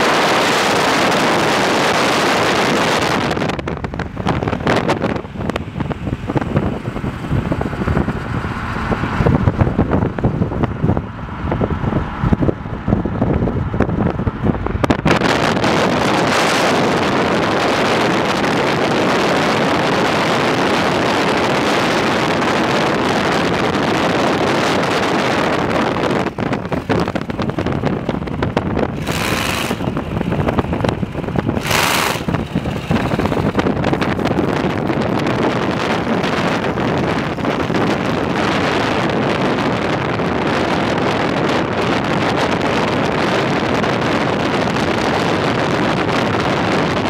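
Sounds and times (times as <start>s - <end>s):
car engine and road noise: 0.0s - 47.0s
wind buffeting microphone: 0.0s - 47.0s.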